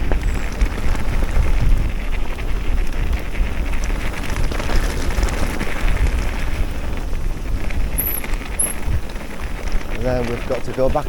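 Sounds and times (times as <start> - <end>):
heavy rumble on microphone: 0.0 - 11.0
tyre crackle and rattle: 0.0 - 11.0.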